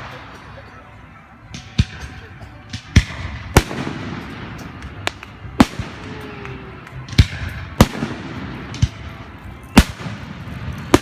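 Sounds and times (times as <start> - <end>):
fireworks bangs with rumble: 1.5 - 11.0.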